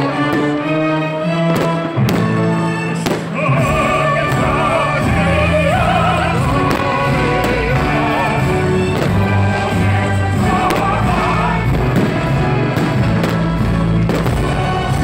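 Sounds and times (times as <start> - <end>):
operatic singing: 0.0 - 15.0
orchestral accompaniment: 0.0 - 15.0.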